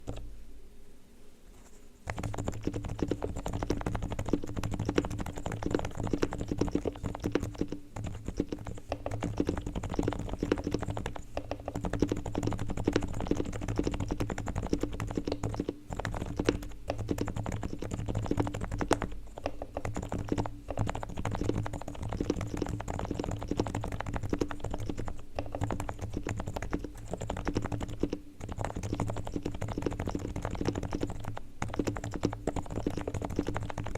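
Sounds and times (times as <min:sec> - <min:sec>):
fast typing on keyboard: 0:00.0 - 0:00.2, 0:02.1 - 0:33.9.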